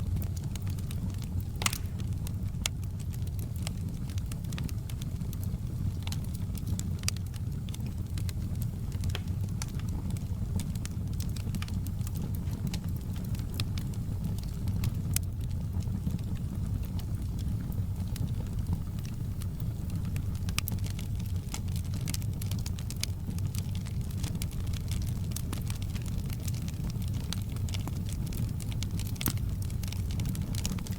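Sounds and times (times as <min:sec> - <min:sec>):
fire rumbling: 0:00.0 - 0:30.9
logs crackling and popping: 0:00.0 - 0:30.9.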